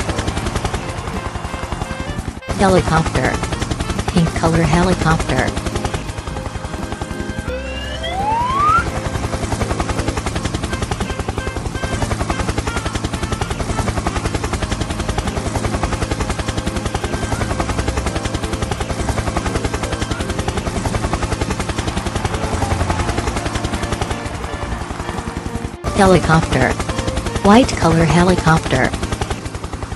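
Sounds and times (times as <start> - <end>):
helicopter rotor chopping: 0.0 - 29.9.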